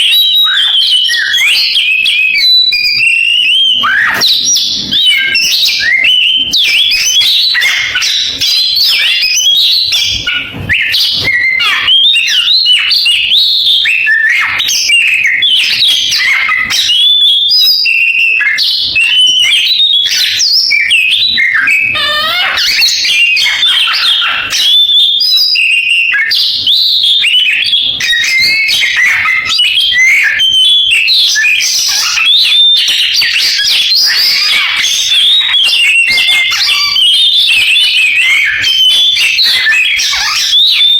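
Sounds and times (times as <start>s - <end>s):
bird singing whistles and chirps: 0.0s - 40.9s.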